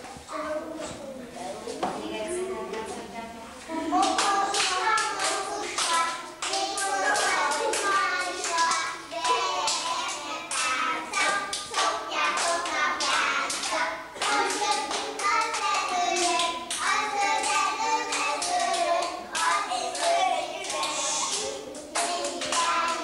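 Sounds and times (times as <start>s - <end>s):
children singing: 3.9s - 23.0s
hands clapping: 4.0s - 23.0s.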